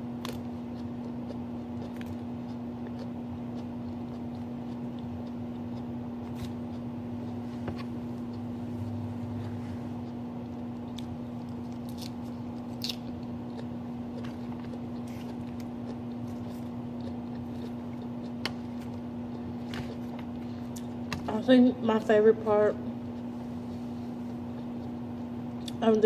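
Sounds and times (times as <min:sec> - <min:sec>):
person chewing salad: 0:00.0 - 0:21.3, 0:22.9 - 0:25.9
steady low hum: 0:00.0 - 0:26.0.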